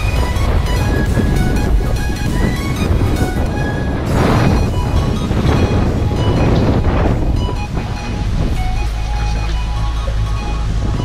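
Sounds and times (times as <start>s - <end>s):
background music: 0.0s - 11.0s
sea rushing: 0.0s - 11.0s
wind noise: 0.0s - 11.0s.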